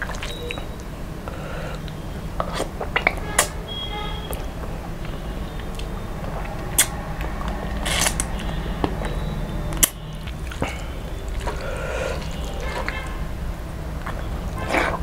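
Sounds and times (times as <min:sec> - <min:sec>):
chewing and sucking: 0:00.0 - 0:03.6, 0:04.2 - 0:13.3, 0:13.9 - 0:15.0
mouth clicks and smacks: 0:00.0 - 0:13.3, 0:13.9 - 0:15.0
steady low hum: 0:00.0 - 0:15.0.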